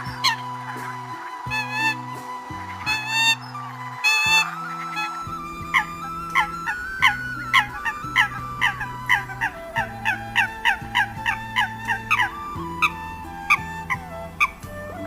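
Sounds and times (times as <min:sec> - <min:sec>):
coot calls: 0:00.0 - 0:15.0
steady held tones: 0:00.0 - 0:15.0.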